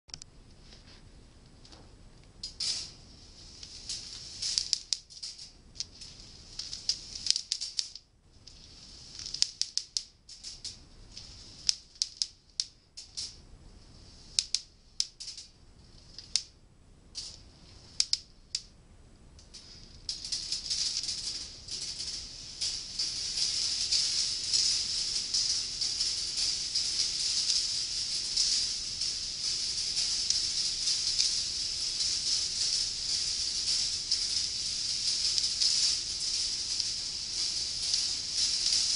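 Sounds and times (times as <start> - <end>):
sharp clicks and rattles: 1.4 - 18.8, 19.4 - 38.9
metal balls rolling on rails: 2.4 - 16.5, 19.4 - 38.9.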